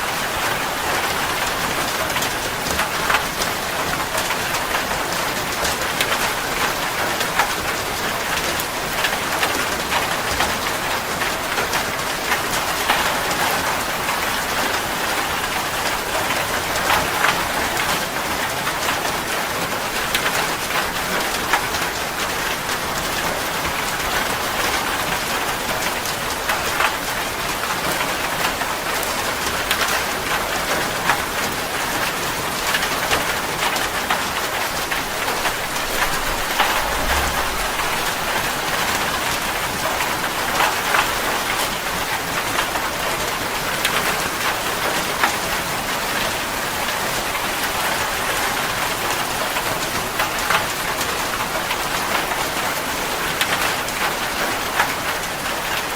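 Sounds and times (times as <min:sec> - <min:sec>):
rain falling on a surface: 0:00.0 - 0:55.9.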